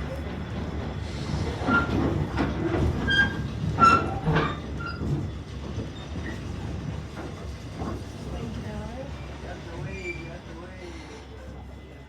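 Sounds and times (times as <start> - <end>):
railcar rumbling on track: 0.0 - 12.0.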